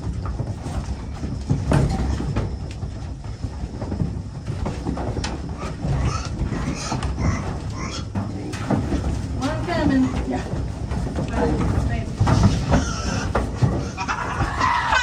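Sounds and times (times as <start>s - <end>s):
goats knocking against metal panels: 0.0s - 15.0s.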